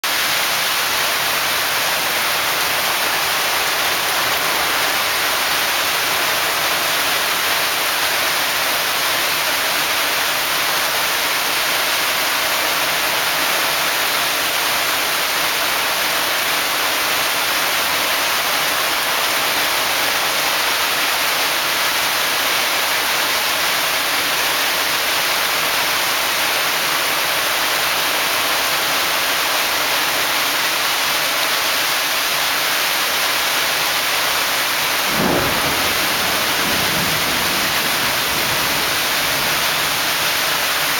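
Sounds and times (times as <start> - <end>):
heavy rain on tiles: 0.0 - 40.9.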